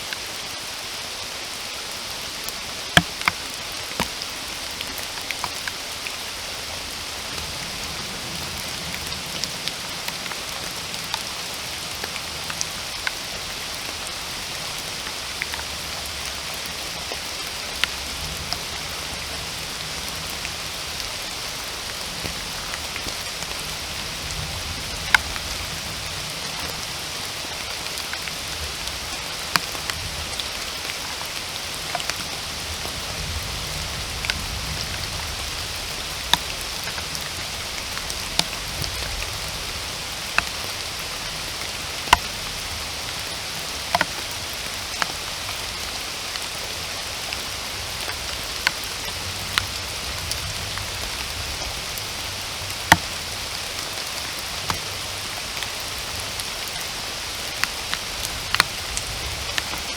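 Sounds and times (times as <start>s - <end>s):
steady rain: 0.0s - 59.9s
raindrops tapping: 2.2s - 59.9s.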